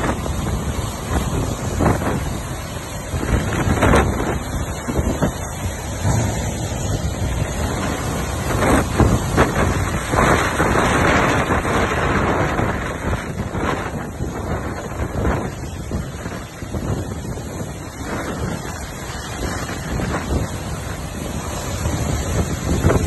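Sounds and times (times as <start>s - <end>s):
heavy rain: 0.0s - 23.0s
strong storm wind: 0.0s - 23.0s
wind buffeting microphone: 0.0s - 23.0s.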